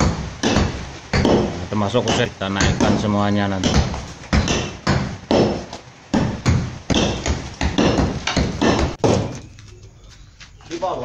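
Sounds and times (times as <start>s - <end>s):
hammer striking plaster on brick: 0.0s - 9.2s.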